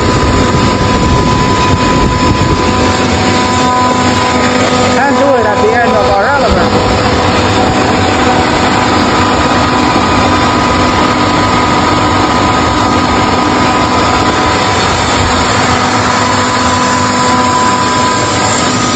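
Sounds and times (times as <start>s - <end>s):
air compressor running: 0.0s - 18.9s.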